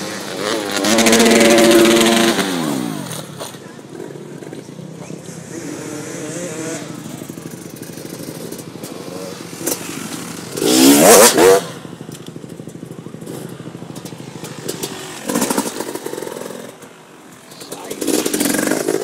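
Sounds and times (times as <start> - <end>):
motorbike engine idling and revving: 0.0 - 19.0.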